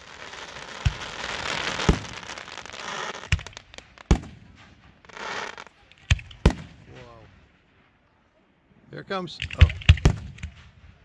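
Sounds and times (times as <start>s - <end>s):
firework shells booming: 0.0s - 8.0s, 9.3s - 11.0s
small firework pops: 0.0s - 8.0s, 9.3s - 11.0s
hissing crackle of burning stars: 0.0s - 11.0s.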